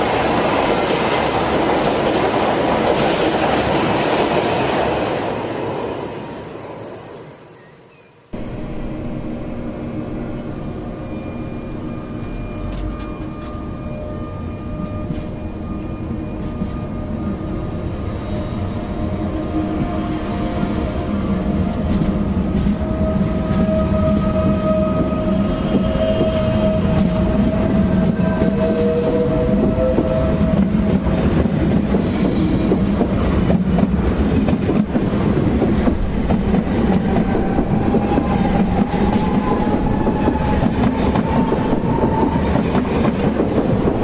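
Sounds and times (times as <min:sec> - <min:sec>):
train humming whine: 0:00.0 - 0:44.0
train rumbling on rails: 0:00.0 - 0:44.0.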